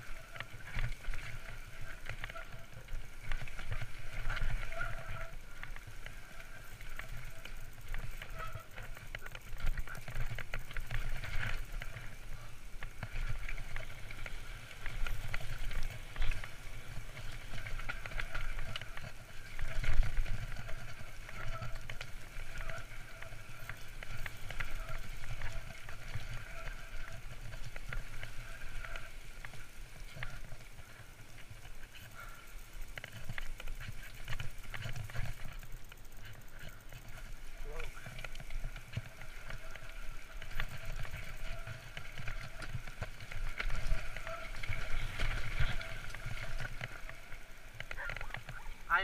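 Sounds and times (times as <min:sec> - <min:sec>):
bike rattling and clattering: 0:00.0 - 0:49.0
bike tyres rolling over stones: 0:00.0 - 0:49.0
wind rumbling on microphone: 0:00.0 - 0:49.0.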